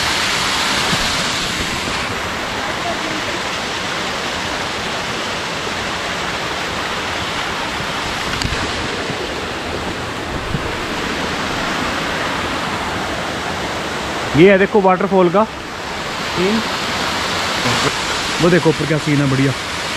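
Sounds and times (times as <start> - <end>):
waterfall splashing over rocks: 0.0 - 19.9.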